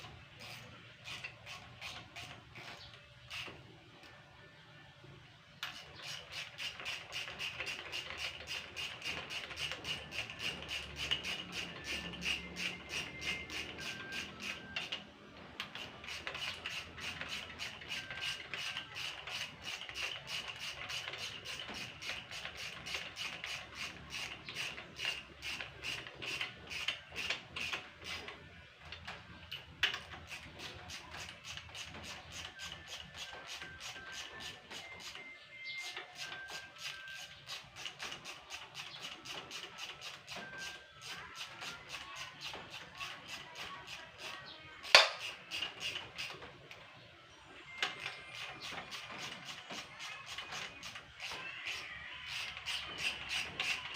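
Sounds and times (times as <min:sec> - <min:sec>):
rhythmic rasping strokes: 0:05.6 - 0:46.8, 0:47.8 - 0:53.9.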